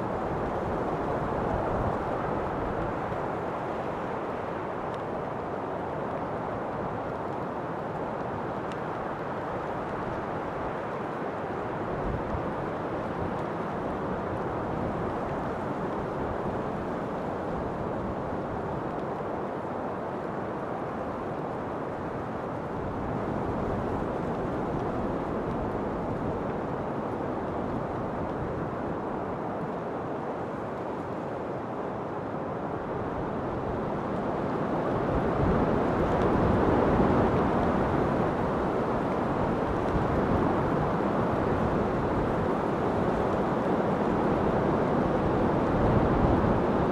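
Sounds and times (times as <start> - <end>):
rushing wind: 0.0 - 46.9.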